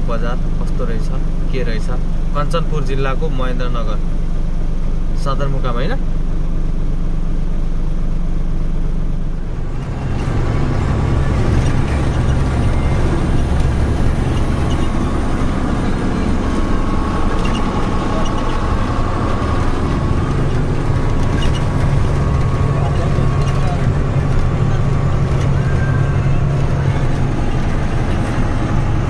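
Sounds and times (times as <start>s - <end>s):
diesel engine drone: 0.0s - 29.0s
road and wind noise: 0.0s - 29.0s.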